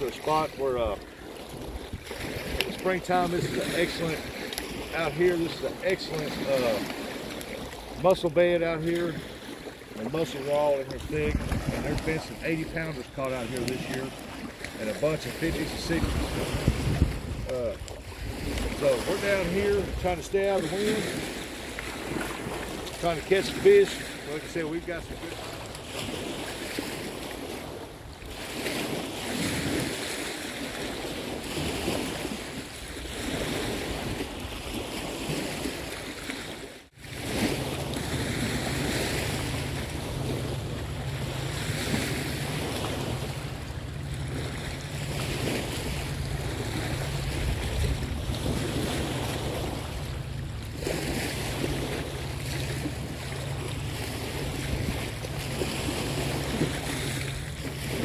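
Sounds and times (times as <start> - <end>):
river water lapping: 0.0 - 58.0
wind gusting across microphone: 10.1 - 36.1, 37.0 - 58.0.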